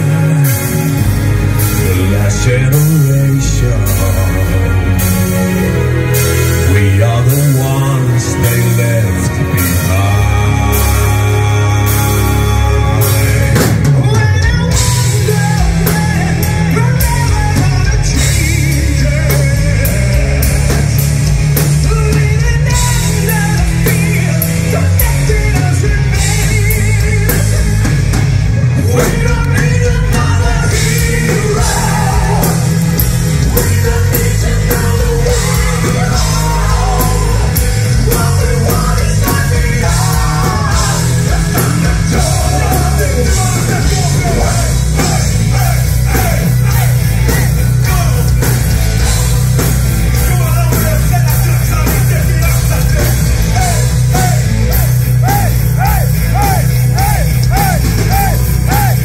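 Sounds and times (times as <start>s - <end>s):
men singing: 0.0s - 28.0s, 28.7s - 59.0s
live heavy rock band: 0.0s - 59.0s.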